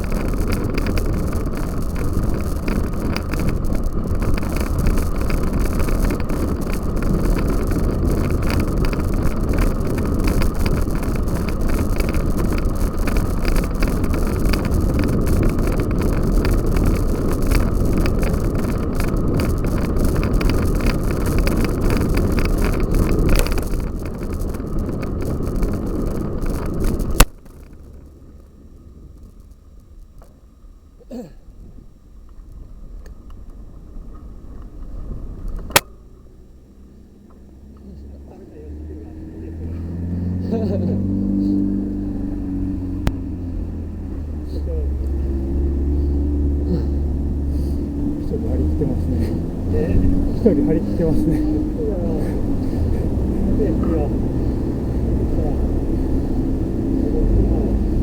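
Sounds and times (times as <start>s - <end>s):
small rattles and knocks: 0.0s - 31.3s, 37.2s - 58.0s
bicycle rumbling over rough ground: 0.0s - 58.0s
wind noise: 0.0s - 58.0s.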